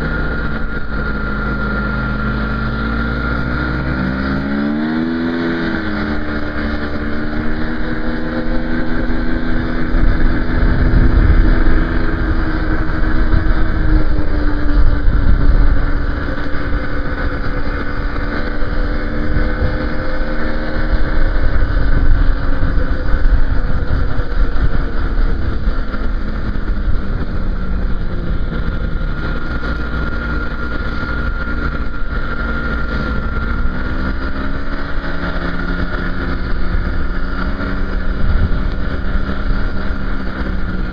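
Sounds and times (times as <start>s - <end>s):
engine running: 0.0s - 40.9s
loud low rumble: 0.0s - 40.9s.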